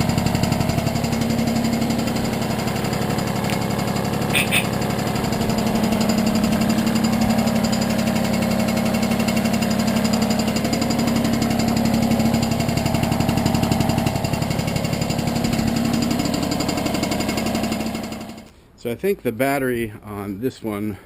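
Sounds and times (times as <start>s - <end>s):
moped engine running: 0.0s - 18.5s.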